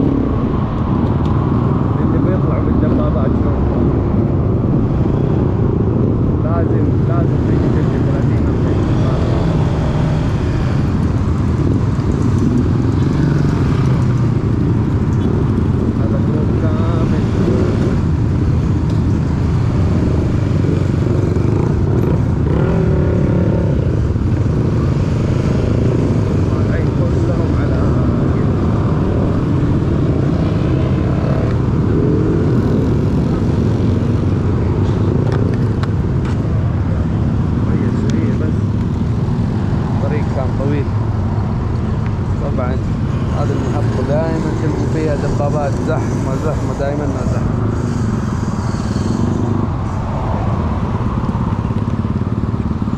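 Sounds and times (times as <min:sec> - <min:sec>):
motorcycle engines rumbling: 0:00.0 - 0:52.9.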